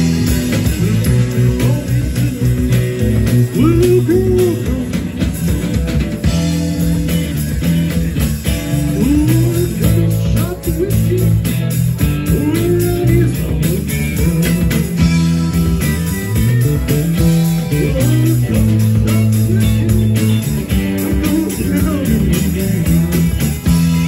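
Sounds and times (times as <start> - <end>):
live rock band playing: 0.0 - 24.0
sliding bending guitar notes: 0.0 - 24.0.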